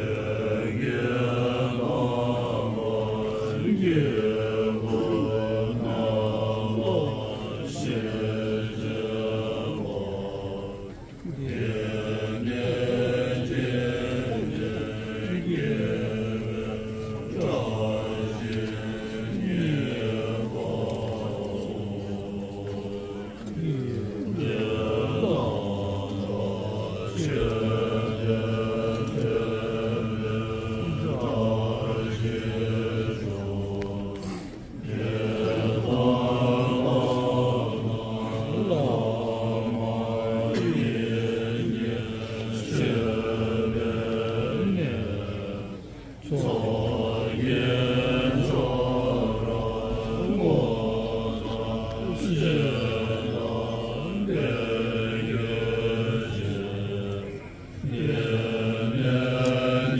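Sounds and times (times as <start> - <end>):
monks chanting together: 0.0 - 59.9.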